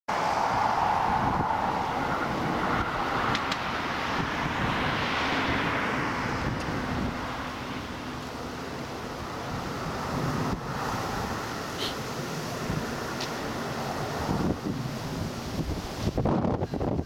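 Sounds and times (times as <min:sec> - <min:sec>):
car passing: 0:00.1 - 0:16.6
jet engines roaring: 0:00.1 - 0:17.0
wind buffeting microphone: 0:00.1 - 0:17.0.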